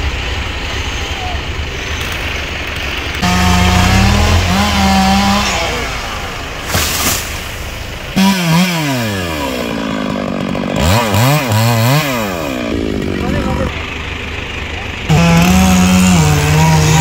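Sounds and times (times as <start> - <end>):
chainsaw engine cutting: 2.0 - 17.0.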